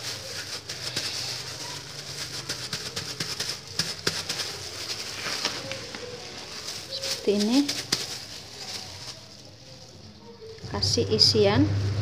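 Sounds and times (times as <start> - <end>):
small irregular crackles: 0.0 - 10.7
plastic crinkling and rustling: 0.0 - 11.4.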